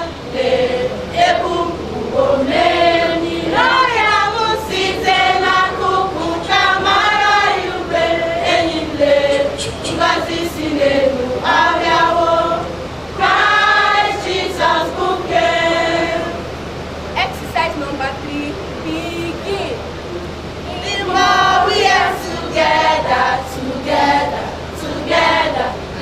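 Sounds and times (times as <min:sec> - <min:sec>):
choir singing a carol: 0:00.0 - 0:16.9, 0:20.6 - 0:26.0.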